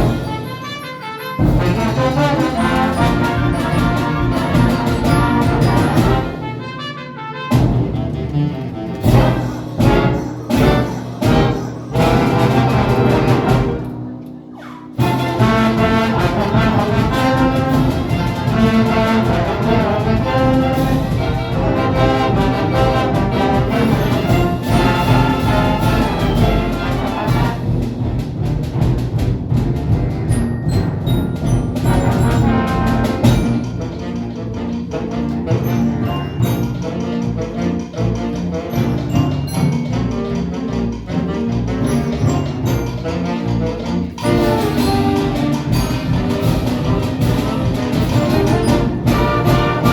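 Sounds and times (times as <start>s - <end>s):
jazz band playing: 0.0s - 49.9s.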